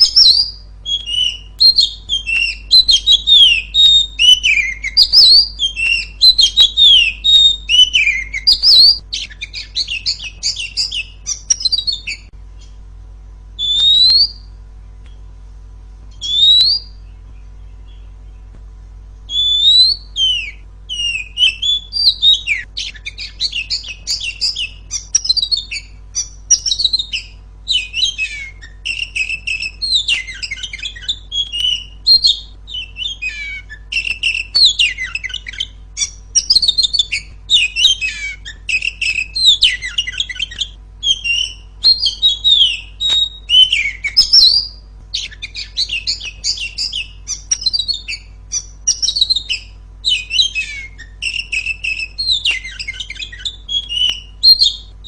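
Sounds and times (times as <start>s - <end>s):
bird singing chirps and whistles: 0.0s - 12.9s, 13.5s - 15.3s, 16.1s - 18.6s, 19.3s - 55.0s
faint steady hum: 0.0s - 55.0s.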